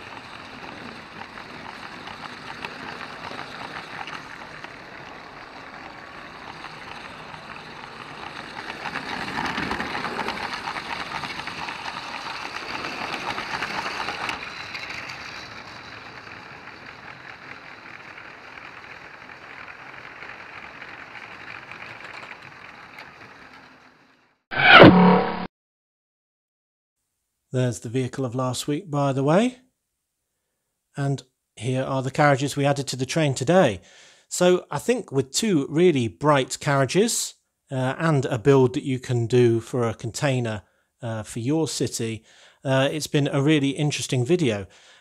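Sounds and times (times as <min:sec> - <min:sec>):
toy train rumbling on track: 0:00.0 - 0:24.4, 0:32.1 - 0:45.0.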